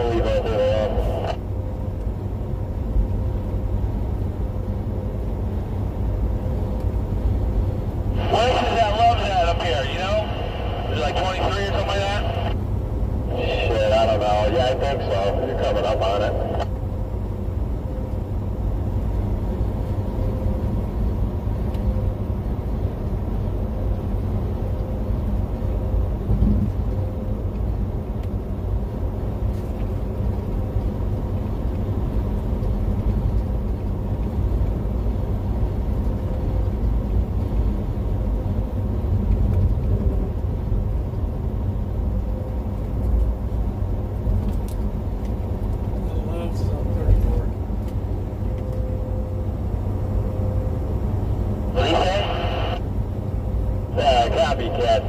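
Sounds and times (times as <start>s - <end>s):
vehicle engine and tyres droning: 0.0s - 55.0s.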